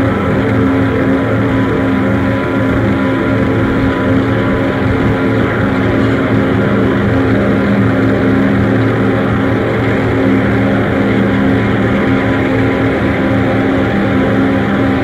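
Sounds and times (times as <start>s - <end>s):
low droning tones: 0.0s - 15.0s.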